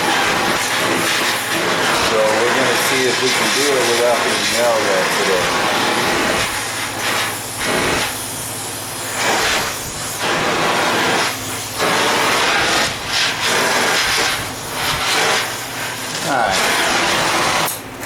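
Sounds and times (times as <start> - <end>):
gas torch flame hissing: 0.0 - 18.0.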